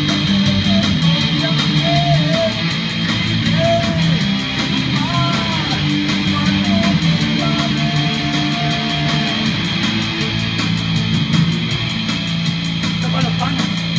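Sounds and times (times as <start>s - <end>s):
electric guitar rock playing: 0.0s - 13.9s.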